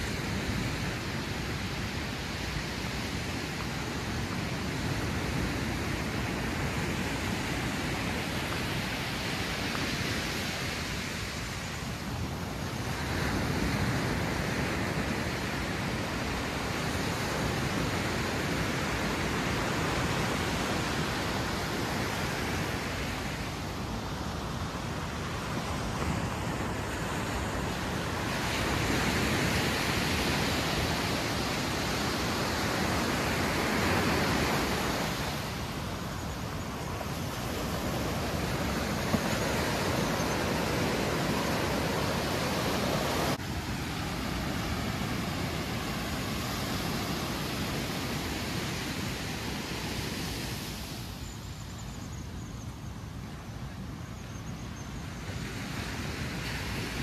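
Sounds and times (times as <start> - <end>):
ocean surf on sandy beach: 0.0 - 57.0.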